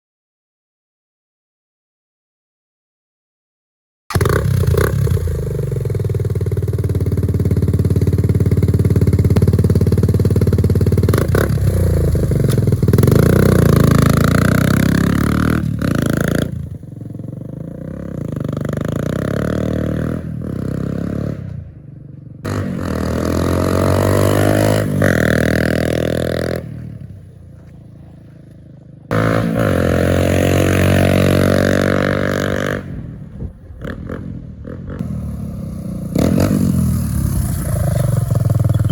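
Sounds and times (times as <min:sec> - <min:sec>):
motorcycle engine revving: 0:04.1 - 0:38.9.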